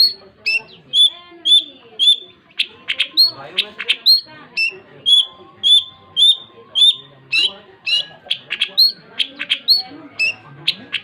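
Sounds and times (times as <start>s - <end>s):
bird singing whistled notes: 0.0s - 11.0s.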